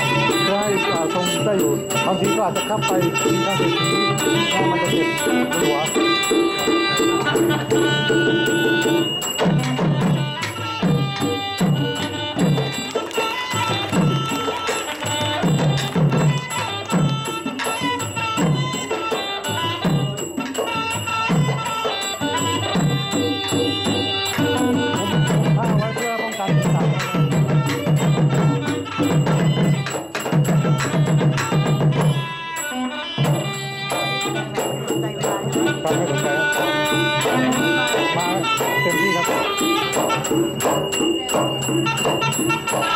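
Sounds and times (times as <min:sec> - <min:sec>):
high reed pipe melody: 0:00.0 - 0:26.5, 0:30.8 - 0:42.9
hand drums: 0:00.0 - 0:42.9.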